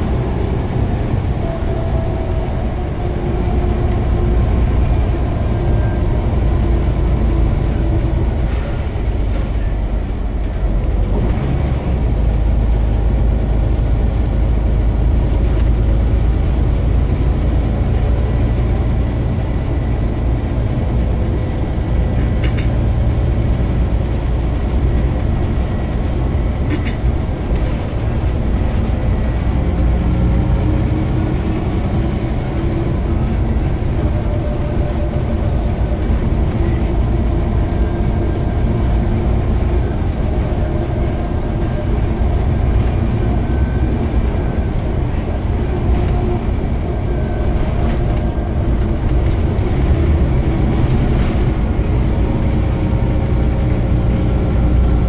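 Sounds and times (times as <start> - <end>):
bus diesel drone: 0.0 - 55.0
road rumble: 0.0 - 55.0.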